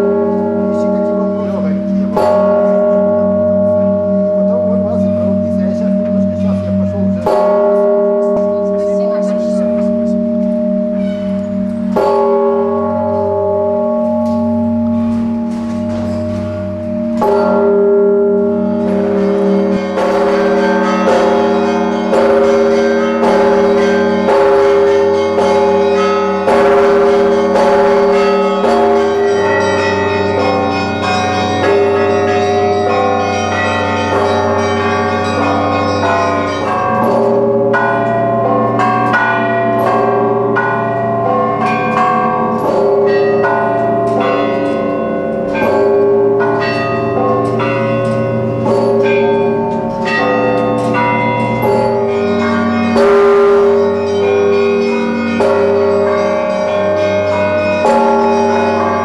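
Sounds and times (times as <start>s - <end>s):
deep bell ringing: 0.0s - 59.0s
small bells ringing fast: 0.0s - 59.0s.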